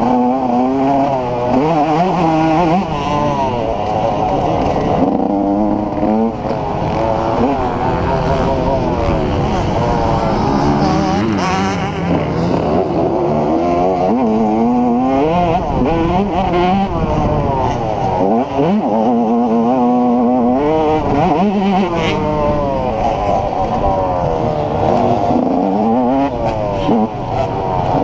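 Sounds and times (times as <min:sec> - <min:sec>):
motocross engine revving: 0:00.0 - 0:28.0.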